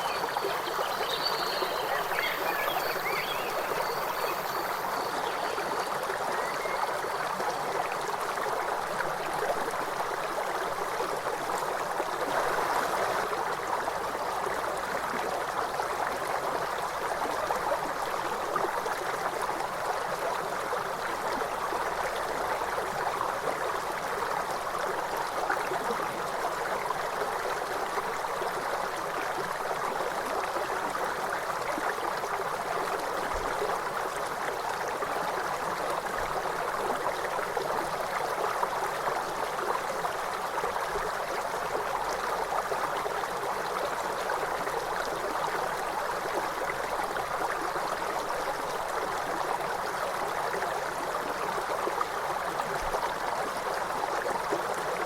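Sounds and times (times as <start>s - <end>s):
river water flowing over stones: 0.0s - 55.0s.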